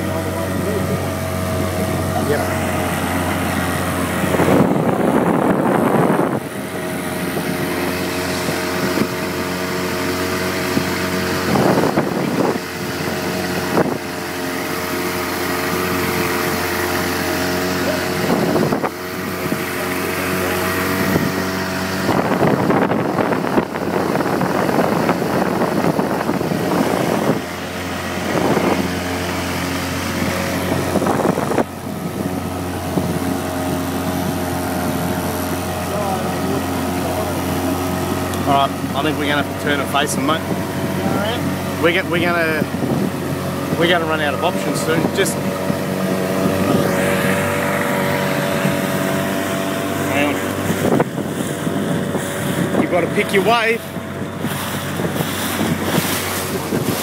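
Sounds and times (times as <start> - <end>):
outboard motor droning: 0.0 - 57.0
rush of water and wind: 0.0 - 57.0.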